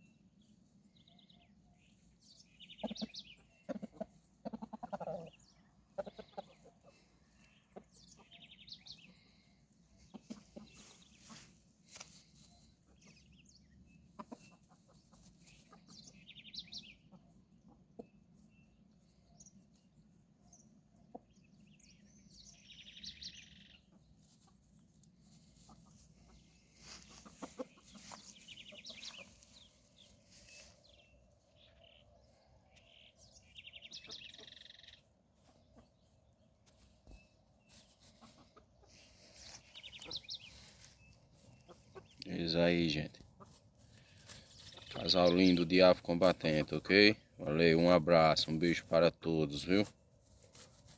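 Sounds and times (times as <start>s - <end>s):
small birds chirping: 0.0s - 50.9s
chickens clucking: 1.5s - 50.9s.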